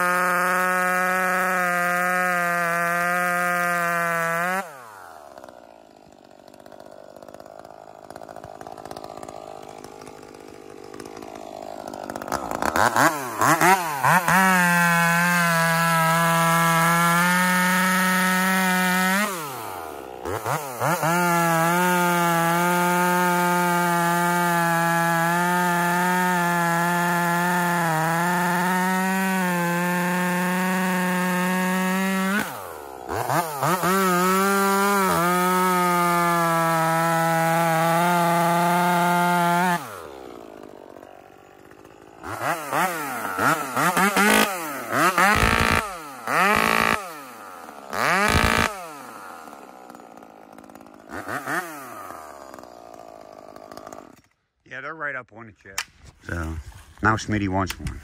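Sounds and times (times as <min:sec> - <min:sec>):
chainsaw revving: 0:00.0 - 0:54.4.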